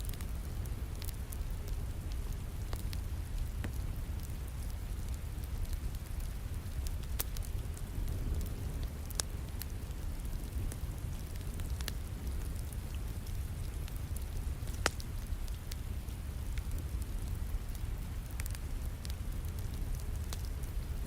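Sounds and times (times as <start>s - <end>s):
steady rain: 0.0s - 21.0s
wood fire crackling and popping: 0.0s - 21.0s.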